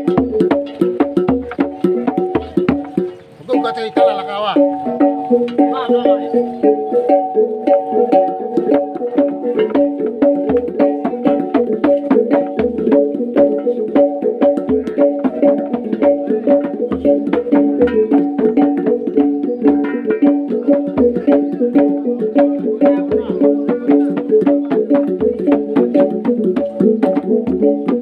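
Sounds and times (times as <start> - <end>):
low drum beats: 0.0 - 28.0
tuned gongs in interlocking pattern: 0.0 - 28.0.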